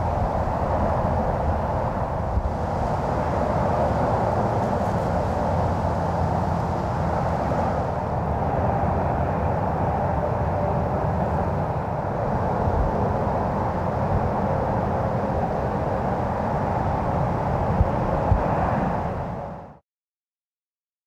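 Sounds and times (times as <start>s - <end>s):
low rumbling background noise: 0.0s - 19.8s.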